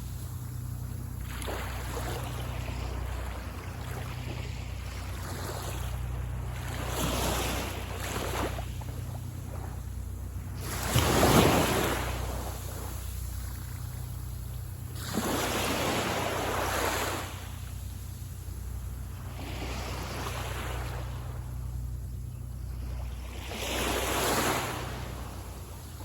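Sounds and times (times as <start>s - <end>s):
waves breaking on beach: 0.0s - 21.6s, 22.7s - 26.0s.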